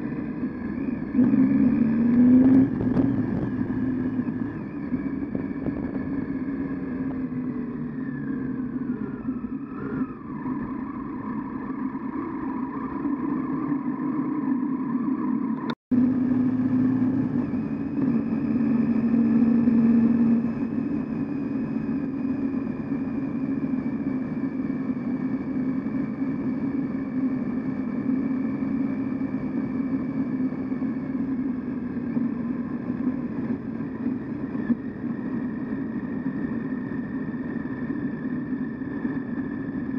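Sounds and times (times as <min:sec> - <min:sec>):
motorcycle engine running: 0:00.0 - 0:15.0, 0:15.9 - 0:39.9.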